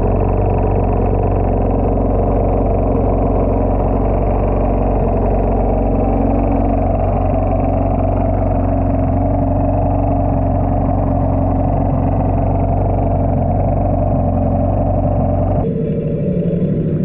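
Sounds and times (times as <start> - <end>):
jet ski engine idling: 0.0 - 17.0.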